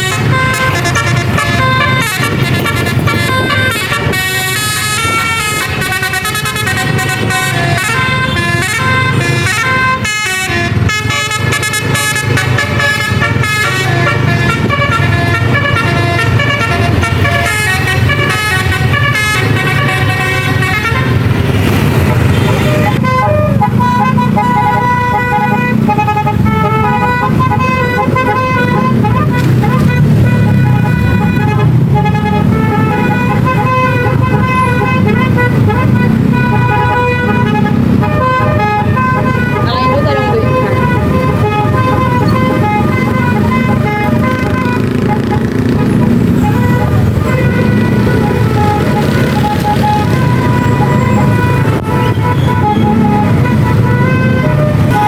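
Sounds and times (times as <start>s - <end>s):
engine rumble: 0.0s - 55.0s
musical air horns melody: 0.0s - 55.0s.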